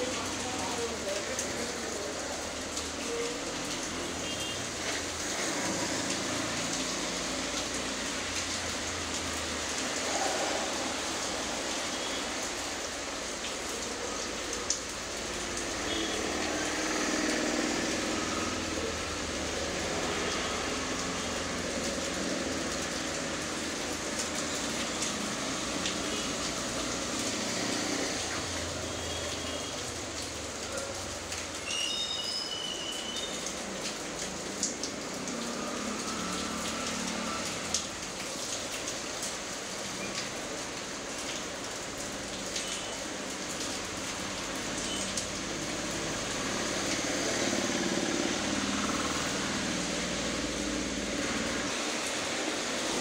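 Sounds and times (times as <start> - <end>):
rain on paving: 0.0 - 53.0.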